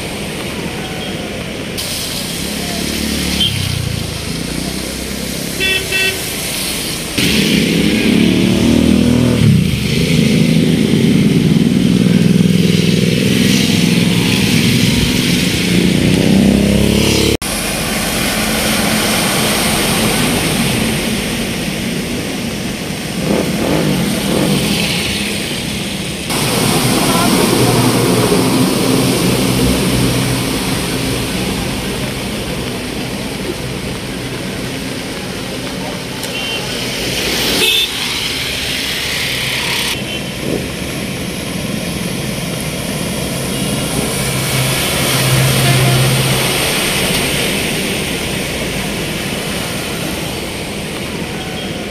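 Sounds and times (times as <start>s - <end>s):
street noise: 0.0s - 51.9s
vehicle engines running: 0.0s - 51.9s.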